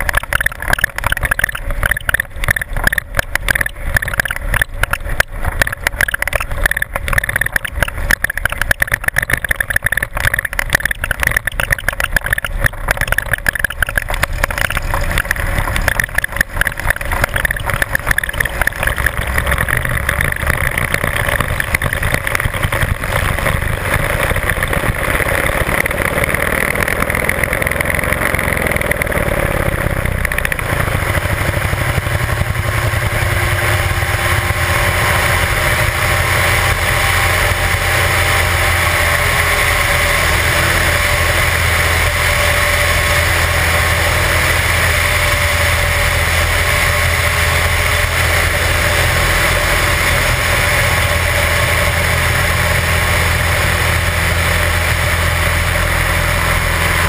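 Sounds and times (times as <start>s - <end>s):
propeller engine drone: 0.0s - 57.0s.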